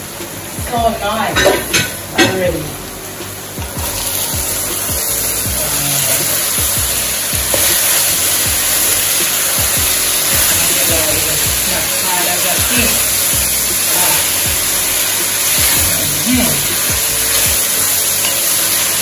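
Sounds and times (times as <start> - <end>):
food sizzling in hot fat: 0.0 - 19.0.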